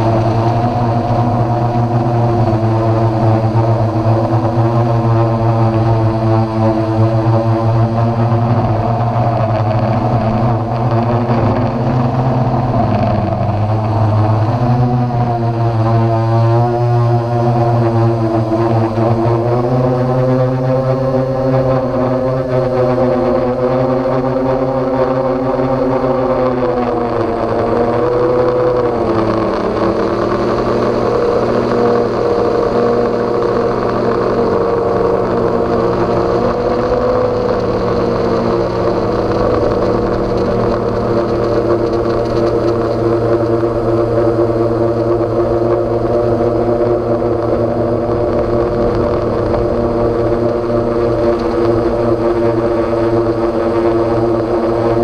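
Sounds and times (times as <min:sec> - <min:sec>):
drone motors and propellers buzzing: 0:00.0 - 0:55.0.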